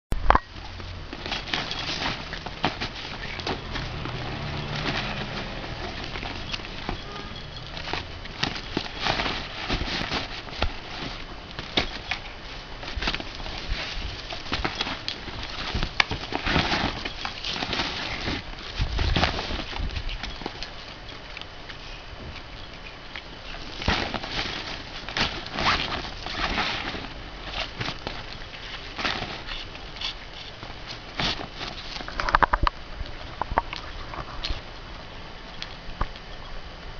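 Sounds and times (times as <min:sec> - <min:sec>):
cat rustling package string: 0:00.6 - 0:32.7.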